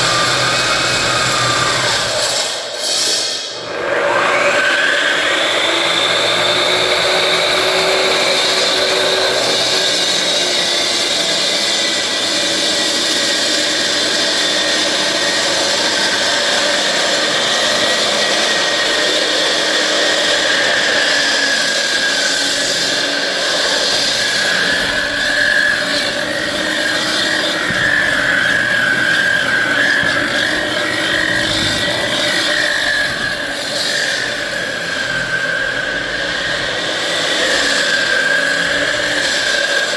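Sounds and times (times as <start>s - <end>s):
electric saw high whine: 0.0s - 39.9s.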